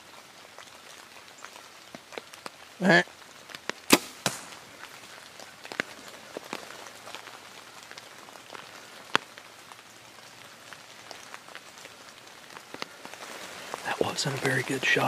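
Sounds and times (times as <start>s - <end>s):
rain falling in woods: 0.0s - 15.0s.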